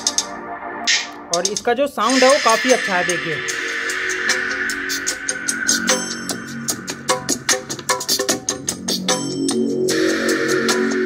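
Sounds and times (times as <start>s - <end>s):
music through small speakers: 0.0s - 11.0s.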